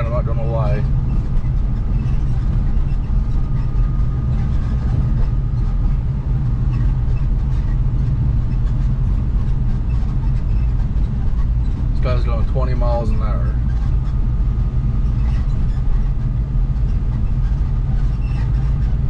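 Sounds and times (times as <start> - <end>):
car cabin engine and tyre rumble: 0.0 - 19.0.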